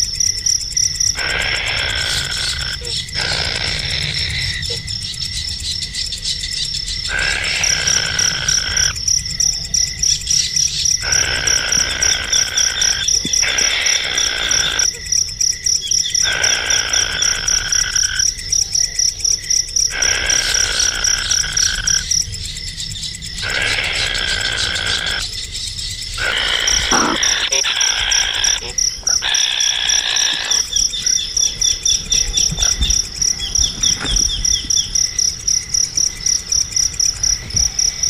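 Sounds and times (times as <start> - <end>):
high fast insect trill: 0.0 - 38.0.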